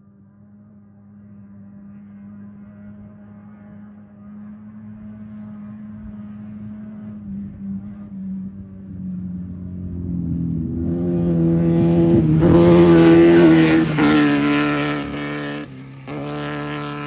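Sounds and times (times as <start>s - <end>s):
race vehicle engine passing: 0.3s - 17.0s.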